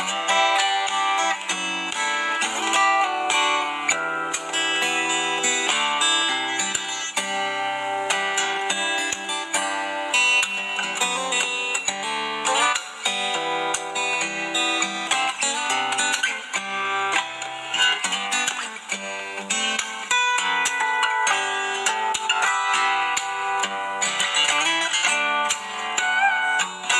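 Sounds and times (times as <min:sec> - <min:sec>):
fingerstyle guitar: 0:00.0 - 0:26.9.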